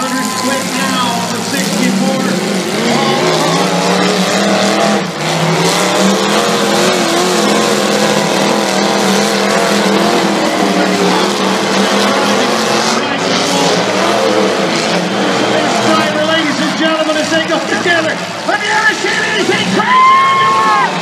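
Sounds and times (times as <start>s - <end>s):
arena crowd noise: 0.0s - 21.0s
truck engines revving: 0.0s - 21.0s.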